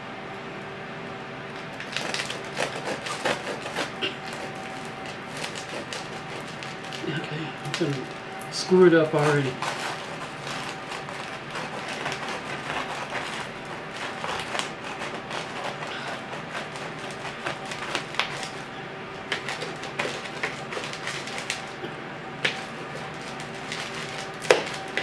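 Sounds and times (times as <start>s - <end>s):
knife sawing through crusty bread: 1.8s - 21.8s, 22.4s - 25.0s.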